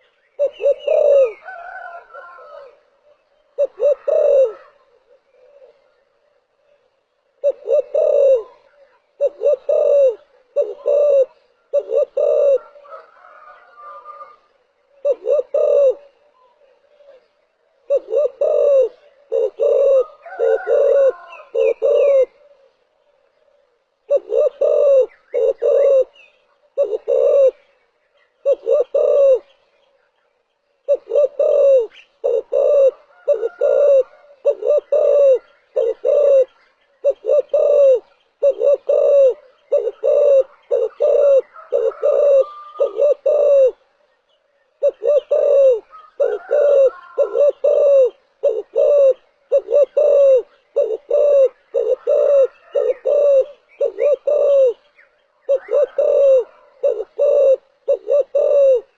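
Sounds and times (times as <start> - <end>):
dove cooing: 0.0 - 29.8, 30.8 - 44.0, 44.7 - 58.9.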